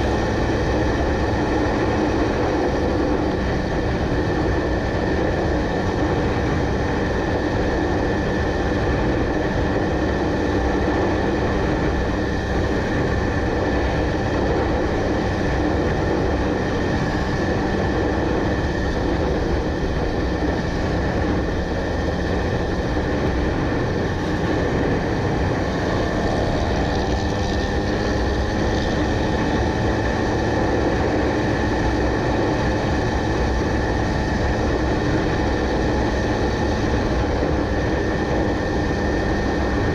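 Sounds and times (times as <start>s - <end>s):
vehicle rumble: 0.0s - 39.9s.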